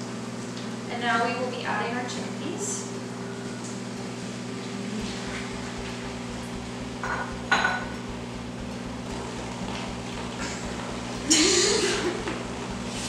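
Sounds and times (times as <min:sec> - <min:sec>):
steady low hum: 0:02.1 - 0:13.0.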